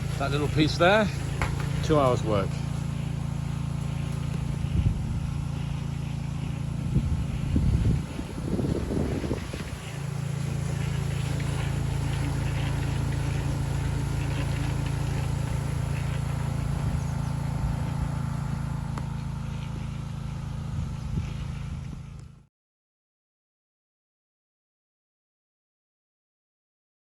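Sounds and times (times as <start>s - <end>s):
motor humming: 0.0s - 22.4s.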